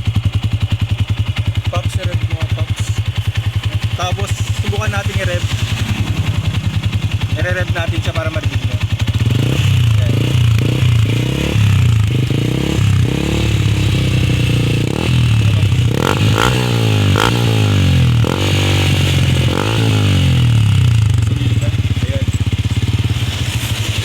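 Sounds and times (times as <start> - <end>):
motorcycle engine revving: 0.0 - 24.0
exhaust pops: 1.2 - 24.0.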